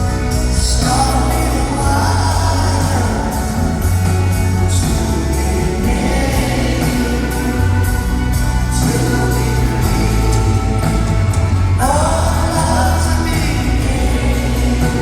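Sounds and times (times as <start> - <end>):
live band playing slow song: 0.0 - 15.0.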